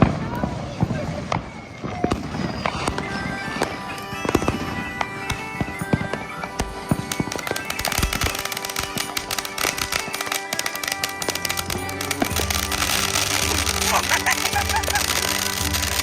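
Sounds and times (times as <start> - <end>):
fireworks crackling and banging: 0.0 - 16.0
music with sustained notes: 0.9 - 16.0.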